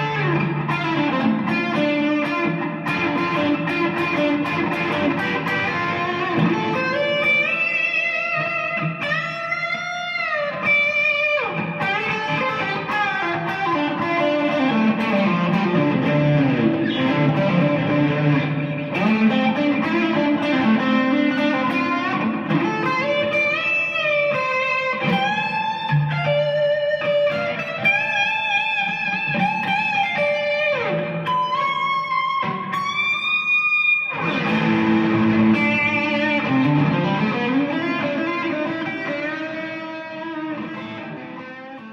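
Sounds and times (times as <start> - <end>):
electric guitar lead lines: 0.0 - 41.9.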